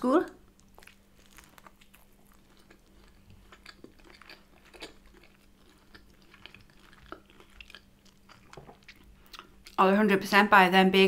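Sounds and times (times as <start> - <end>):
person chewing: 0.4 - 9.8.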